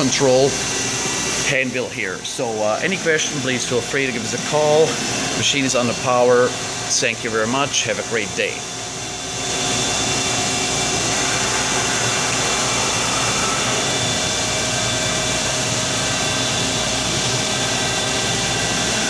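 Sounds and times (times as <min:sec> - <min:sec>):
milling machine whirring: 0:00.0 - 0:19.0
steady whining tones: 0:00.0 - 0:19.0.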